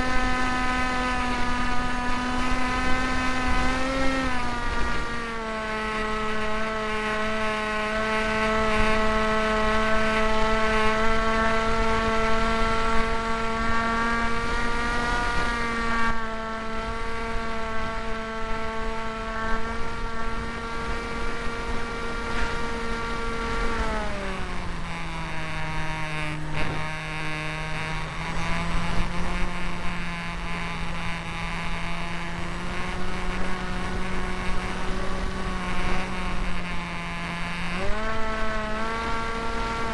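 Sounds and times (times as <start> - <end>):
model plane electric motor: 0.0 - 39.9.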